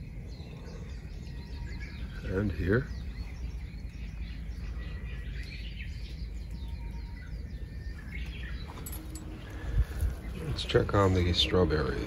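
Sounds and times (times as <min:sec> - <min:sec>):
low rumble: 0:00.0 - 0:12.0
small birds chirping: 0:00.0 - 0:12.0.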